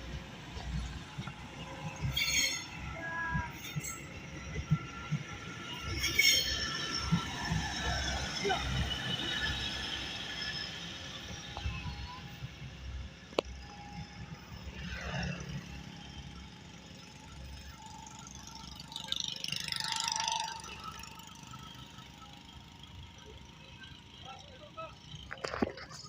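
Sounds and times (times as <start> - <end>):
vehicle noise: 0.0 - 26.0.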